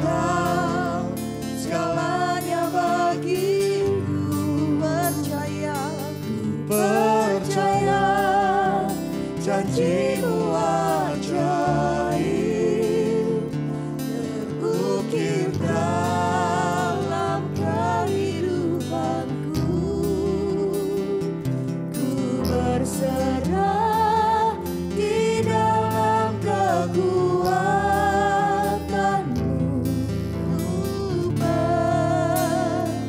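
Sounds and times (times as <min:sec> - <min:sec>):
keyboard chords: 0:00.0 - 0:33.0
strummed acoustic guitar: 0:00.0 - 0:33.0
women singing worship song: 0:00.0 - 0:33.0.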